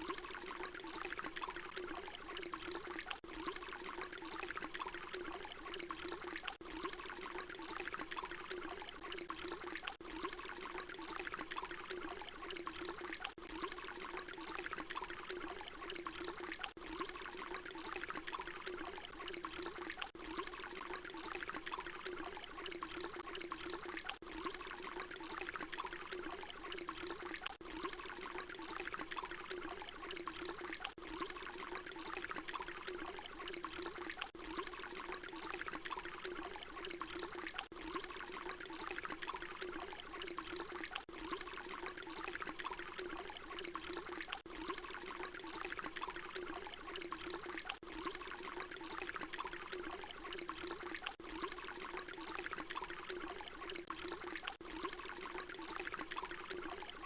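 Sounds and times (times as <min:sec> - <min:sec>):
water pouring: 0:00.0 - 0:57.0.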